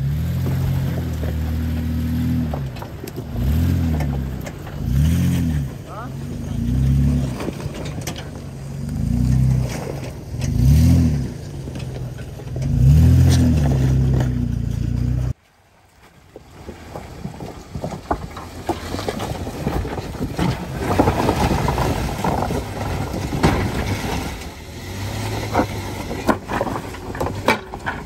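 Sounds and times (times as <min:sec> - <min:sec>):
engine revving: 0:00.0 - 0:15.4, 0:20.7 - 0:28.0
tyres crunching over rock: 0:00.0 - 0:28.0.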